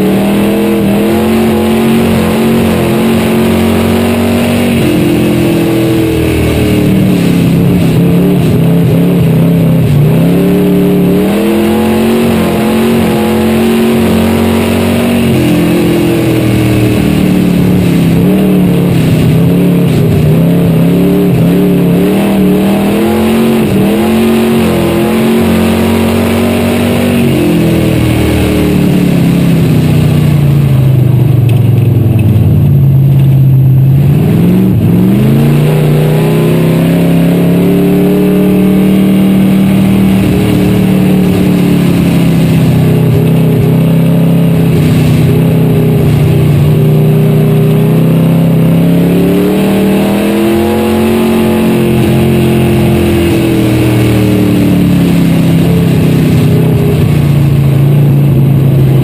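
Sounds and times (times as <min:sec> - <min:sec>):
race car engine under power: 0:00.0 - 0:59.0.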